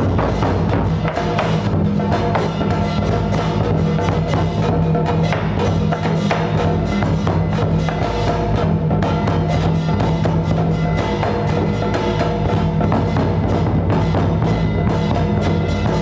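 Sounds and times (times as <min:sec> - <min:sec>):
rapid drum and wood-block music: 0:00.0 - 0:16.0.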